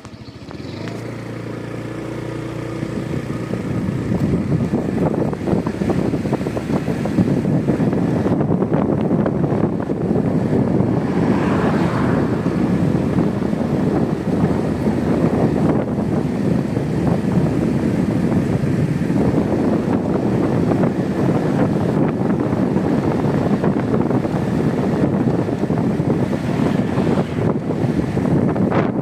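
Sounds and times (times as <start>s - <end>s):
motorcycle engine accelerating: 0.0s - 29.0s
wind buffeting microphone: 0.0s - 29.0s.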